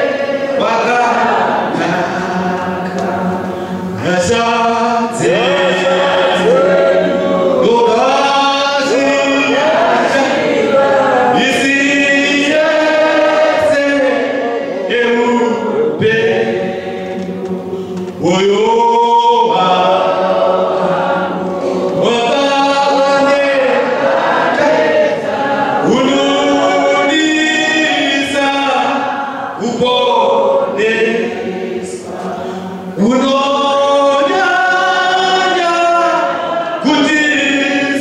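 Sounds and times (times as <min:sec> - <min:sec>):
congregation singing a hymn: 0:00.0 - 0:38.0.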